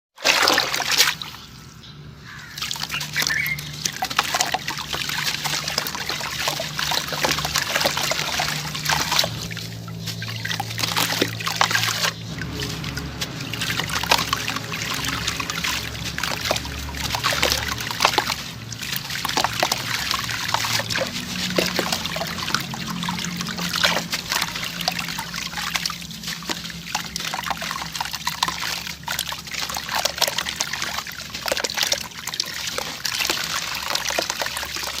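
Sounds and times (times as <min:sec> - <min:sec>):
gritty trickling: 0:00.2 - 0:35.0.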